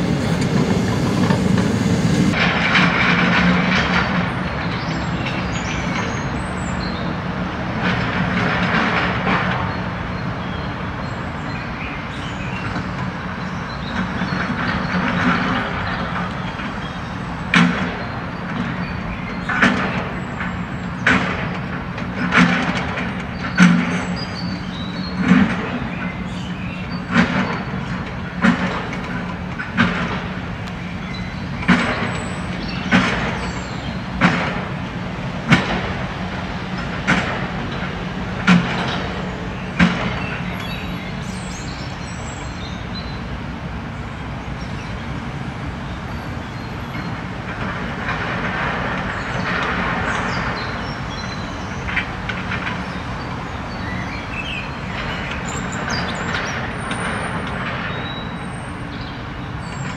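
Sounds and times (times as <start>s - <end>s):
excavator engine and hydraulics: 0.0s - 59.9s.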